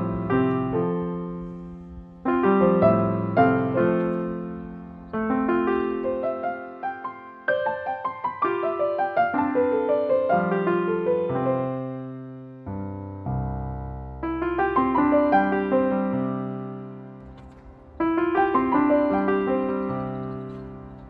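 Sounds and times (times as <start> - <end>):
gentle solo piano music: 0.0 - 21.0.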